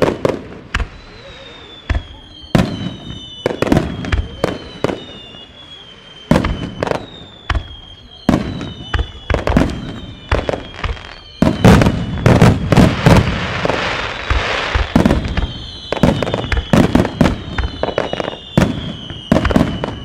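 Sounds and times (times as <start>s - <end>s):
firework crackle: 0.0s - 20.0s
fireworks bursting: 0.0s - 20.0s.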